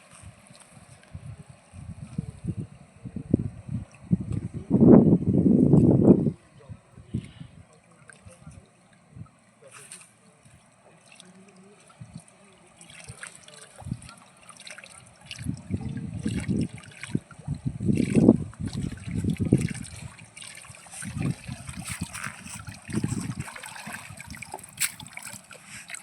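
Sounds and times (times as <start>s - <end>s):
water sloshing and trickling: 0.0s - 4.7s, 6.6s - 26.0s.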